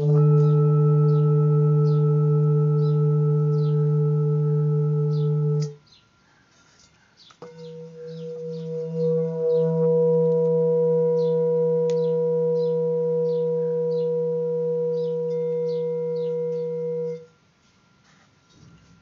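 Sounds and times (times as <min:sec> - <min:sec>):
singing bowl ringing: 0:00.0 - 0:06.2, 0:07.4 - 0:19.0.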